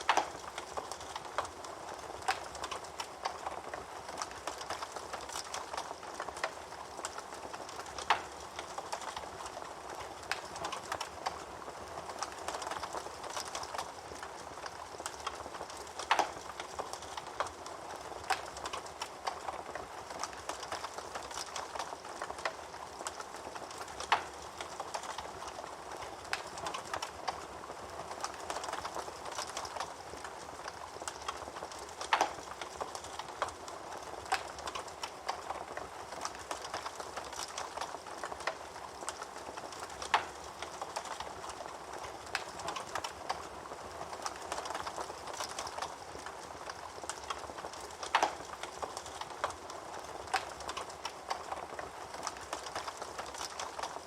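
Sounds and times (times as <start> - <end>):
loud fire snaps: 0.0 - 54.0
wood fire crackling: 0.0 - 54.0.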